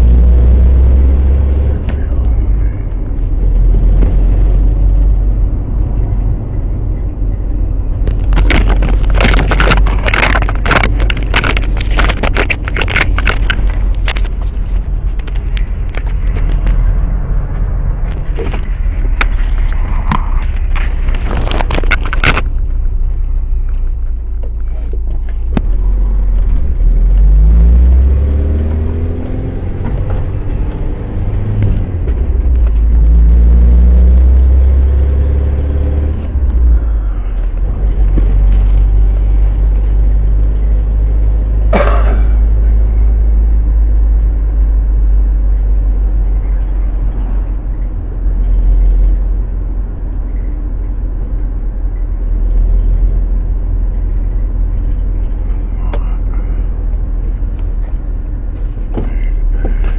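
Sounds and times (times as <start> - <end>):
engine accelerating: 0.0 - 59.9
road traffic rumble: 0.0 - 59.9.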